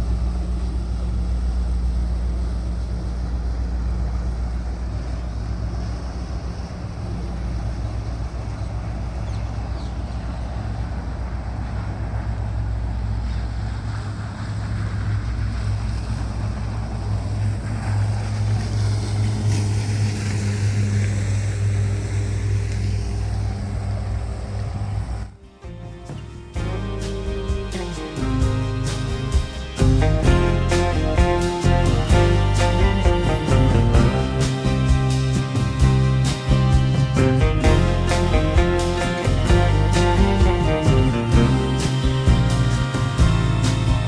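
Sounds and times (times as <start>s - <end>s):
boat engine running: 0.0s - 25.4s, 26.0s - 44.0s
water noise: 0.0s - 25.5s, 26.1s - 44.0s.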